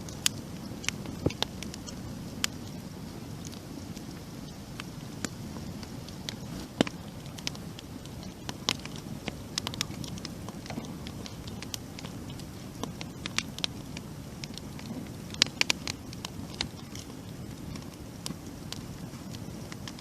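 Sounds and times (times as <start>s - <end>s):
campfire crackling and popping: 0.0s - 20.0s
low fire rush: 0.0s - 20.0s.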